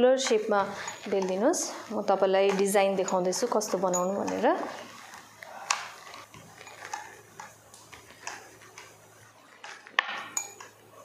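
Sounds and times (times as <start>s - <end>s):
rolling pin rubbing on dough: 0.0s - 10.0s.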